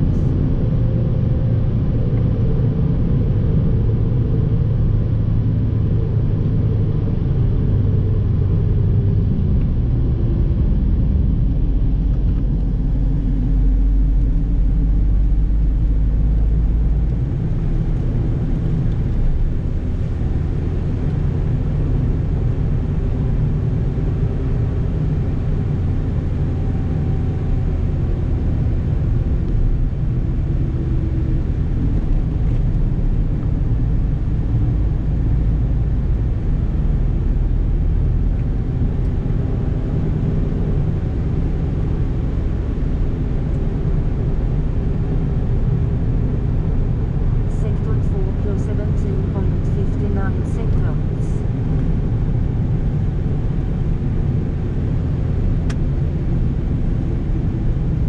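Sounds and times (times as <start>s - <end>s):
car engine accelerating: 0.0s - 58.0s
deep low rumble: 0.0s - 58.0s
road noise: 0.0s - 58.0s.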